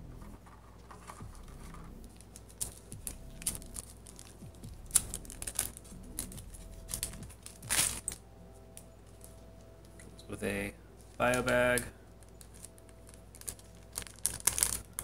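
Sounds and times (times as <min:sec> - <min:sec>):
plastic packaging rustling: 0:00.1 - 0:08.3, 0:09.0 - 0:15.0.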